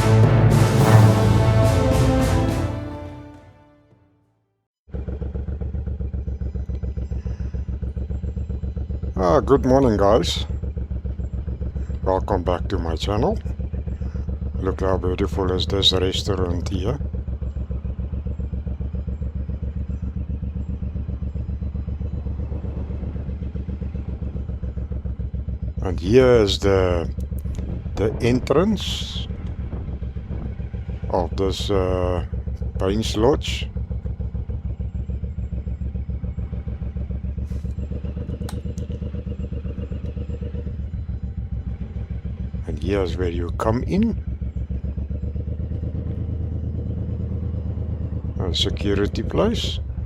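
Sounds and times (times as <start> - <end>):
motorcycle engine idling: 4.8 - 50.0.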